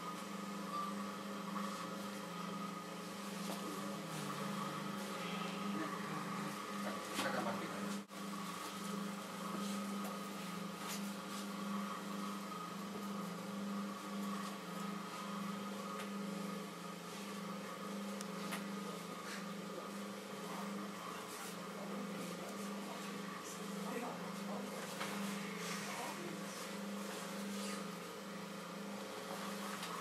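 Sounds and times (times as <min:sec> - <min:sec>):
potter's wheel motor hum: 0:00.0 - 0:30.0.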